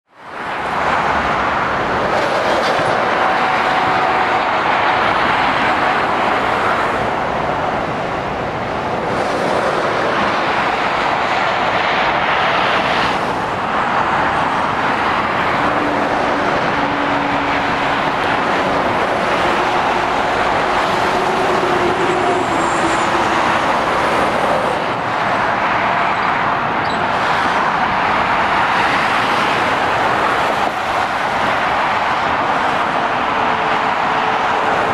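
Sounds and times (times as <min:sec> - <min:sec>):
road traffic rushing: 0:00.0 - 0:34.9.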